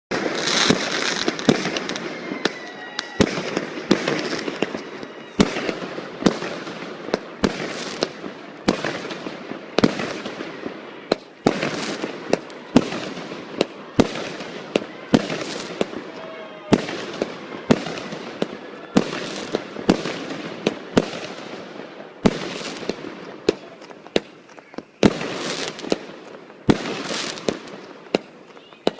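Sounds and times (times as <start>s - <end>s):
fireworks bangs: 0.1s - 28.9s
fireworks crackling hiss: 0.1s - 28.9s.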